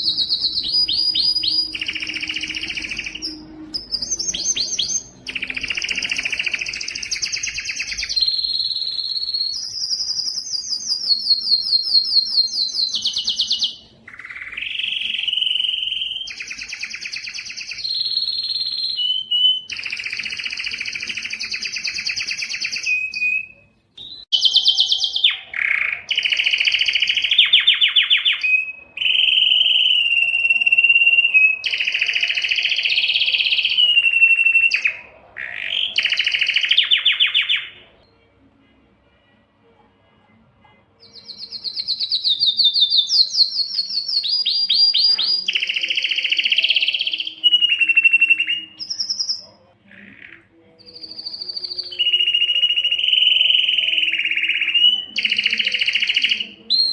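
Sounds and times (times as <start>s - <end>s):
canary singing trills: 0.0s - 38.4s, 40.0s - 56.9s.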